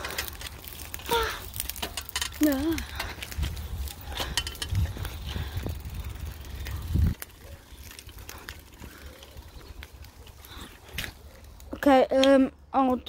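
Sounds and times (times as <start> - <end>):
twigs and leaves crackling: 0.0 - 13.0.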